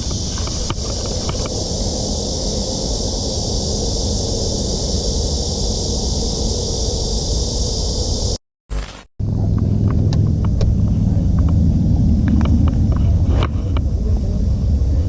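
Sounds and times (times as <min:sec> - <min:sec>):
steady low rumble: 0:00.0 - 0:08.4, 0:09.2 - 0:15.0.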